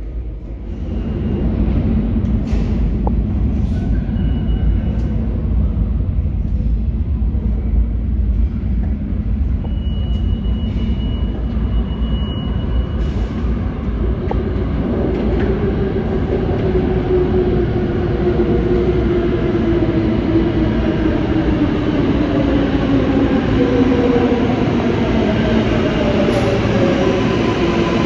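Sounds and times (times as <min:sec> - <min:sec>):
subway train rumble: 0:00.0 - 0:28.0.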